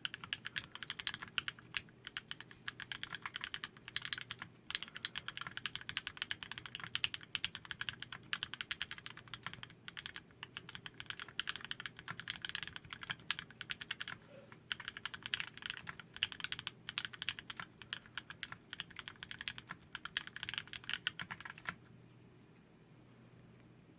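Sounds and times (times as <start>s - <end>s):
rapid mechanical keyboard typing: 0.0s - 21.8s.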